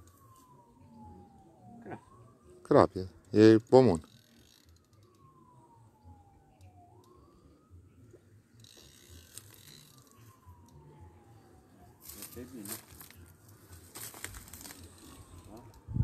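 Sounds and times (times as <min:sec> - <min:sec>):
faint siren wailing: 0:00.0 - 0:16.0.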